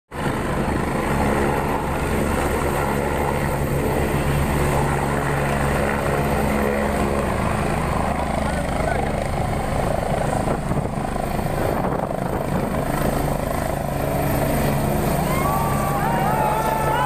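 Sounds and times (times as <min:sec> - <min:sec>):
helicopter rotor and turbines: 0:00.1 - 0:17.0.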